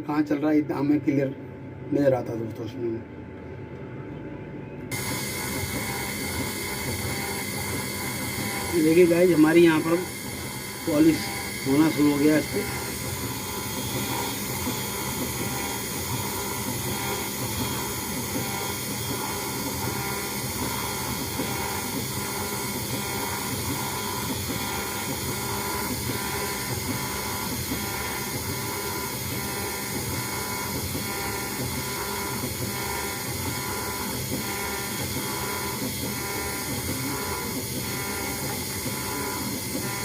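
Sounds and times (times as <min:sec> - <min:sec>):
router spindle whining: 0:04.9 - 0:40.0.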